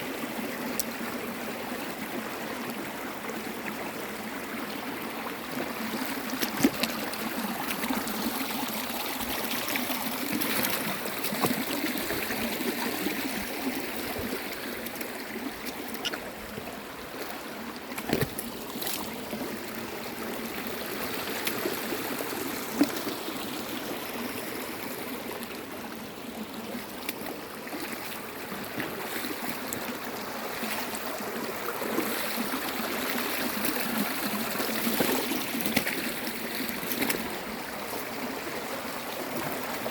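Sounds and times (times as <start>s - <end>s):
water running over stones: 4.5s - 25.6s, 26.3s - 39.9s
water splashes: 5.3s - 25.5s, 26.3s - 39.9s.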